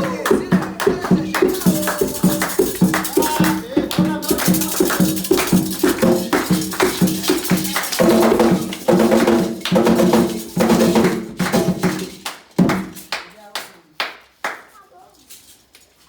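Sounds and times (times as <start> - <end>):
hand drums played fast: 0.0 - 13.1.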